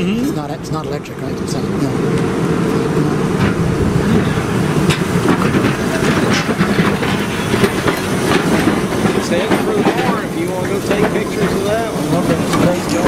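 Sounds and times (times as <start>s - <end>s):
streetcar wheels rumbling on rails: 0.0s - 13.0s
wheels clicking over track joints: 0.8s - 13.0s.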